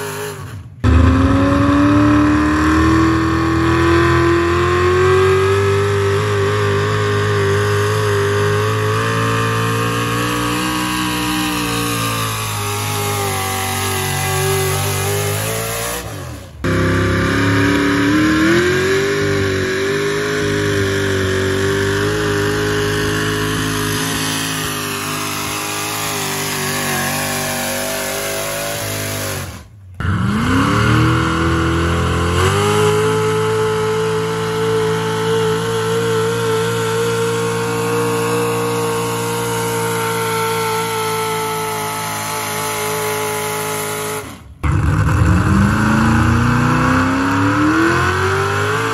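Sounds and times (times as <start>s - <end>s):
truck engines at full throttle: 0.0s - 48.9s.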